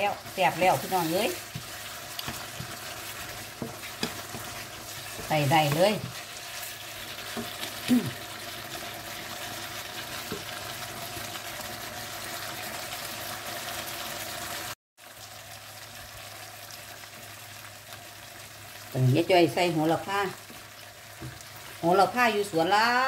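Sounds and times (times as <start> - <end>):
sauce sizzling and bubbling in wok: 0.0 - 23.0.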